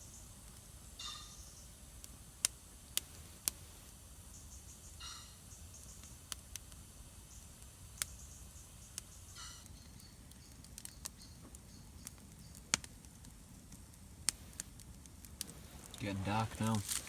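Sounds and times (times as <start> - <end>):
campfire popping and crackling: 0.0 - 17.0.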